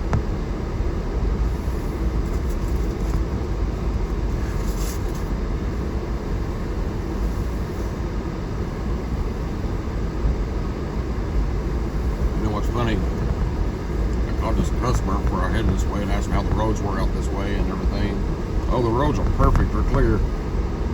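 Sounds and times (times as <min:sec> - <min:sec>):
heater blower fan: 0:00.0 - 0:20.9
road and engine rumble: 0:00.0 - 0:20.9.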